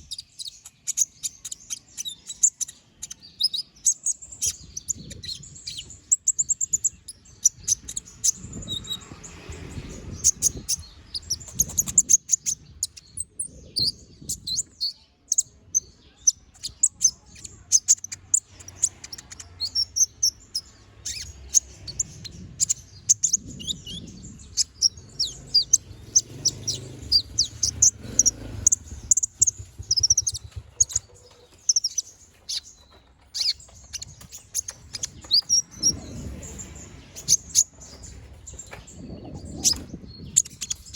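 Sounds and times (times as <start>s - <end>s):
sunbird chirping and trilling: 0.0s - 40.9s.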